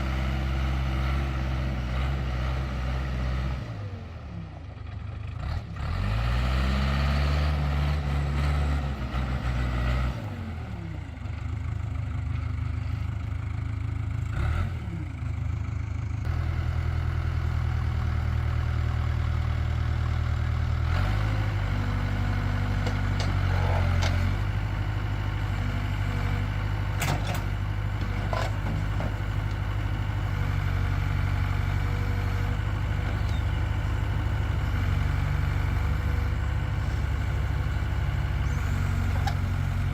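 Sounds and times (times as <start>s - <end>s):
diesel engine running under work: 0.0s - 39.9s.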